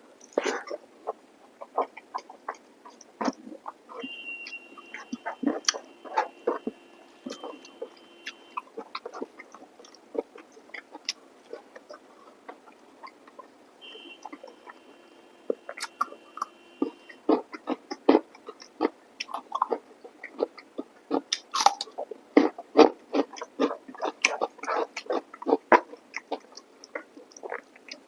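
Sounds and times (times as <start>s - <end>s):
wet chewing and lip smacks: 0.2s - 13.6s, 14.2s - 14.9s, 15.6s - 28.0s.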